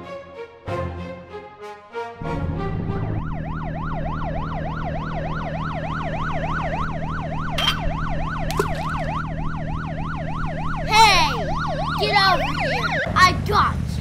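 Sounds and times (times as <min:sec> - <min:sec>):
low engine-like drone: 0:02.2 - 0:13.5
police yelp siren: 0:02.2 - 0:13.7.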